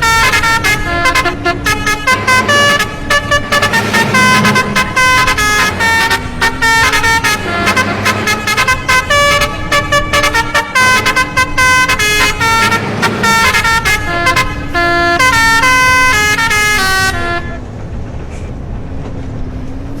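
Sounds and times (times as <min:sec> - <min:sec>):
multi-trumpet bus horn tune: 0:00.0 - 0:17.7.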